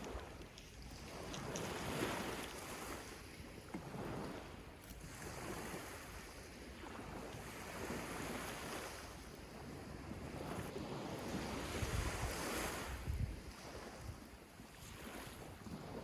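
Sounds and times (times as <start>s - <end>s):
waves breaking on beach: 0.0s - 16.0s
wind on microphone: 0.0s - 16.0s.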